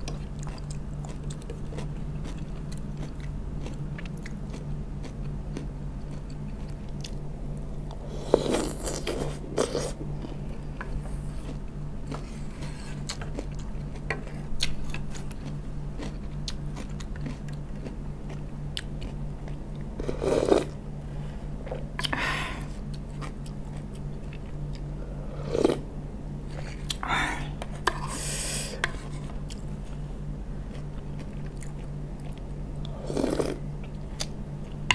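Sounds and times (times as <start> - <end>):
crunchy chewing: 0.0 - 20.8, 22.8 - 25.8, 30.6 - 34.9
low hum: 0.0 - 34.9.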